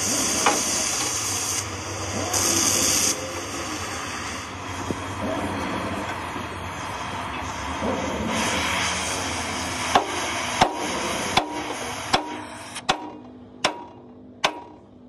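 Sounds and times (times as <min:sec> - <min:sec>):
gas cutting torch hissing: 0:00.0 - 0:12.8.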